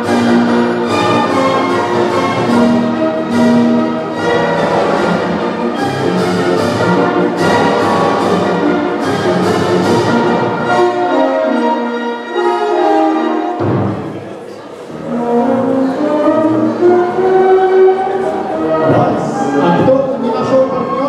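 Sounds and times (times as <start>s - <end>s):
orchestral dance music with violins: 0.0s - 14.2s, 14.8s - 21.0s.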